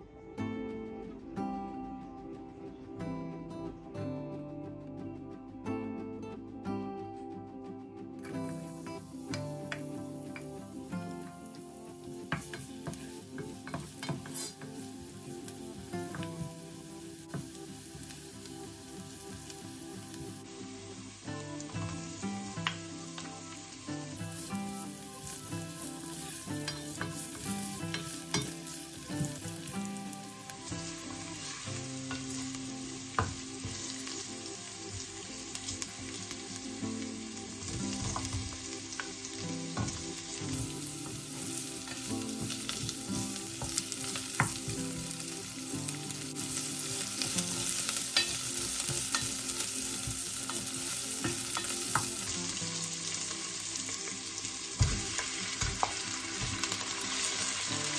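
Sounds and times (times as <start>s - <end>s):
food sizzling in a pan: 8.2s - 57.9s.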